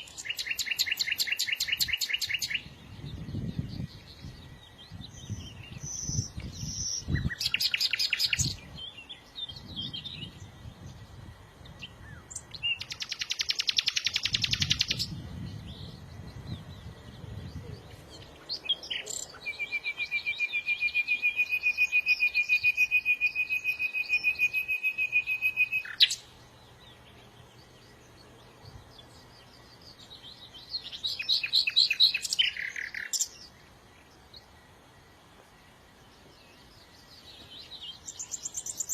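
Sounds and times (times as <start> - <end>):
songbirds trilling: 0.0 - 38.9.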